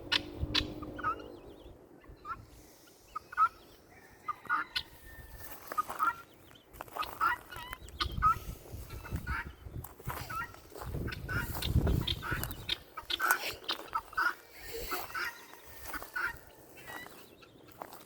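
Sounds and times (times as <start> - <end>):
turkeys gobbling: 0.0 - 1.4, 2.0 - 6.3, 6.9 - 18.0.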